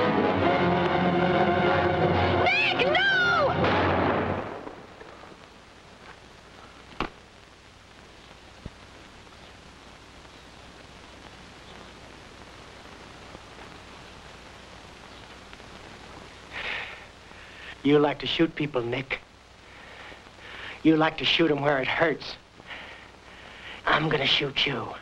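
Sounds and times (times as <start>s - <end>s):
film soundtrack hiss: 0.0s - 25.0s.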